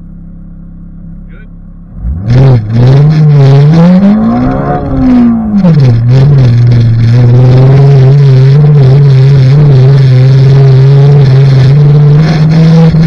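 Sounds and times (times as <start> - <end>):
car engine accelerating hard: 1.2 - 13.0.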